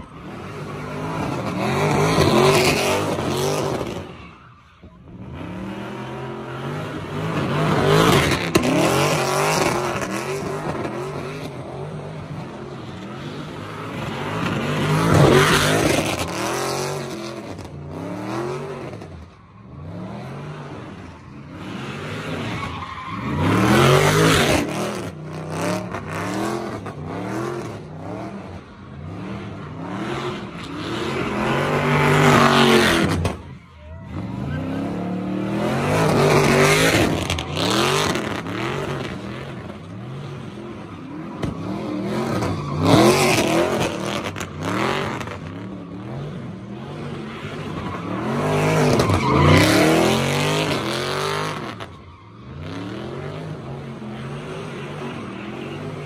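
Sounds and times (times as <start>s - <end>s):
tyres squealing on asphalt: 0.0s - 56.0s
car engine revving: 5.0s - 56.0s.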